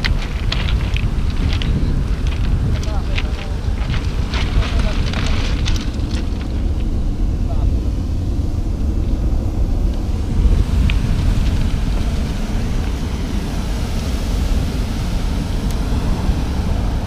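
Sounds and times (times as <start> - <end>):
surf on pebble beach: 0.0 - 8.2, 8.9 - 17.0
wind buffeting microphone: 0.0 - 17.0.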